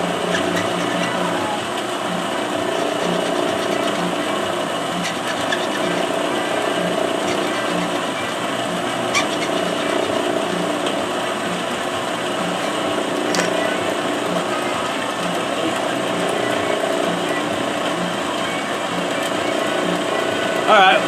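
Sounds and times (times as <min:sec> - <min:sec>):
bandsaw cutting metal: 0:00.0 - 0:20.6.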